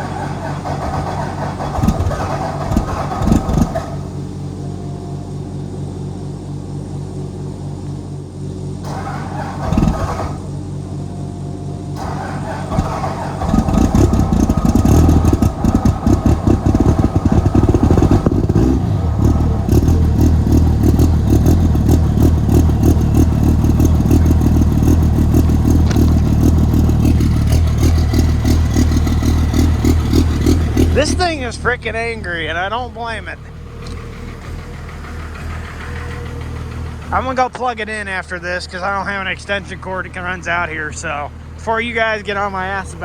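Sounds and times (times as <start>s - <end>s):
diesel engine running rough: 0.0s - 43.0s
tractor idling: 0.0s - 43.0s.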